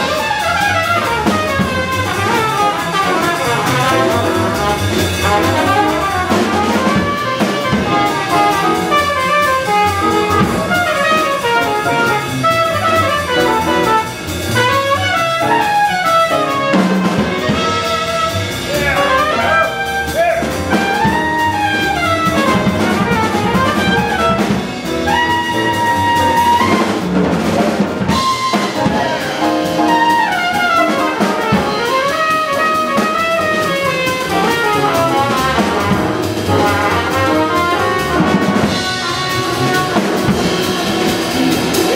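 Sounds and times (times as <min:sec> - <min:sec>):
drum kit: 0:00.0 - 0:41.9
grand piano: 0:00.0 - 0:41.9
trumpet solo: 0:00.0 - 0:41.9
upright bass: 0:00.0 - 0:41.9.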